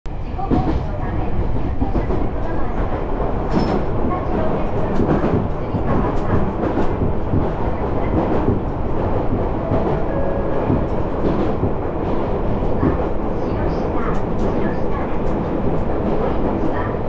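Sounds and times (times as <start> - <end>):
train rumbling on track: 0.1 - 17.0.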